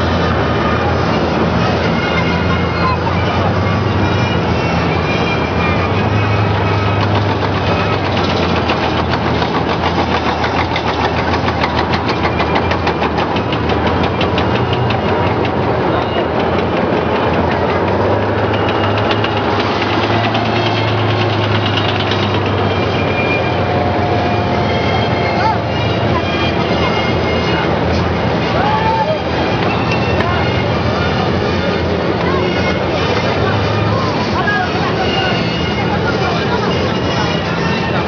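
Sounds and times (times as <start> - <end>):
steel tracks clattering: 0.0 - 38.0
tank diesel engine droning: 0.0 - 38.0.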